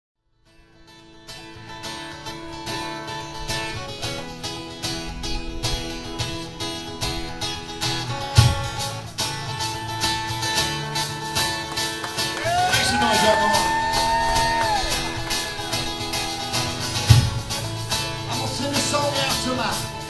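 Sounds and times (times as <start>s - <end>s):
guitar strumming: 0.4s - 20.0s
live band playing: 2.0s - 20.0s.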